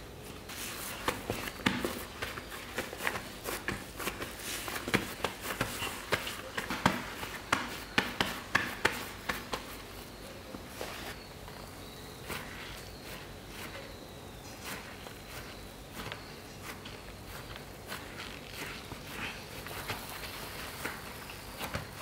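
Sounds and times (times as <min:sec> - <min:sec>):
gloved hands patting soybean mash: 0:00.2 - 0:22.0.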